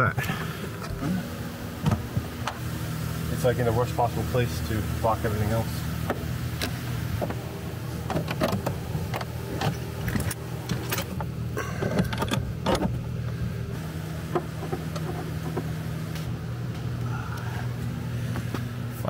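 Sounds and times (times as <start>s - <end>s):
low hum: 0.2s - 19.0s.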